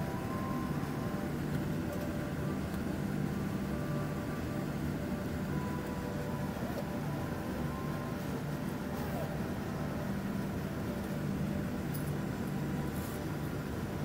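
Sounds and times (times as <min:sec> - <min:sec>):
faint whining tones: 0:00.0 - 0:14.0
jet engines idling hum: 0:00.0 - 0:14.0.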